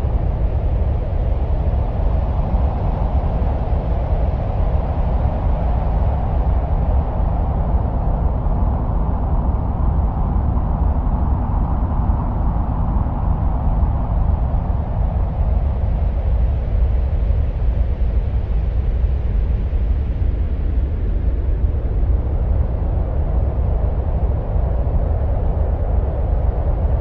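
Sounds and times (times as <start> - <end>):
low wind-like rumble: 0.0 - 27.0.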